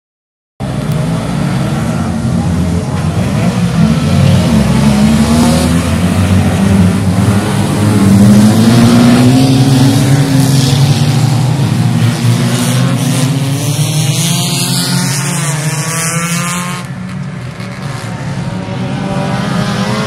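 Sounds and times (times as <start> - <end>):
racing cars revving and accelerating: 0.6 - 20.0.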